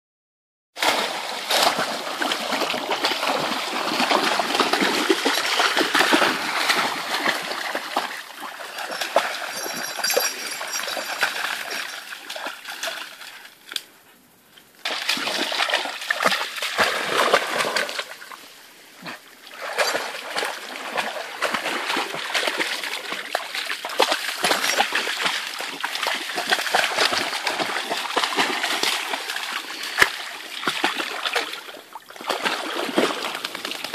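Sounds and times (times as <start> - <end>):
dogs splashing through water: 0.8 - 13.4, 14.8 - 18.2, 19.1 - 33.9.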